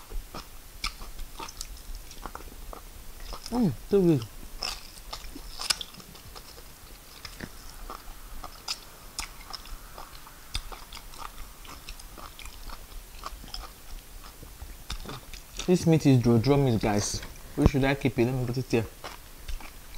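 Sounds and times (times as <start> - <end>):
mouth chewing clicks and smacks: 0.0 - 16.3, 19.0 - 19.9.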